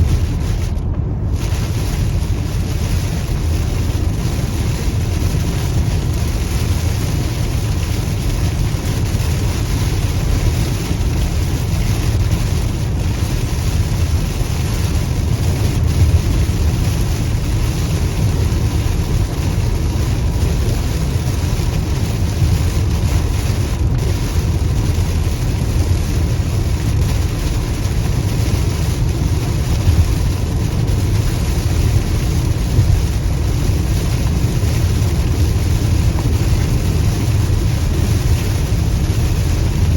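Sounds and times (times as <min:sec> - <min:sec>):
car driving rumble: 0:00.0 - 0:39.9
tyre and wind noise: 0:00.0 - 0:39.9.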